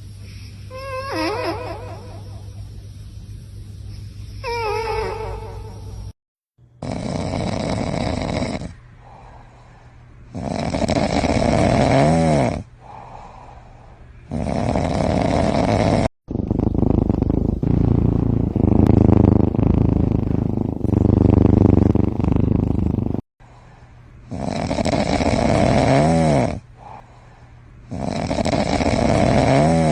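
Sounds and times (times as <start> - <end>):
cats snoring: 0.0 - 3.0, 3.9 - 6.2, 6.8 - 29.9.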